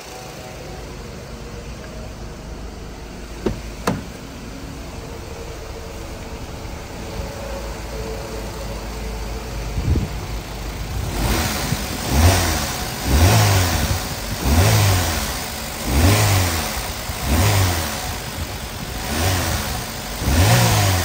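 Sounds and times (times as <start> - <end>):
car engine idling with knocking: 0.0 - 21.0.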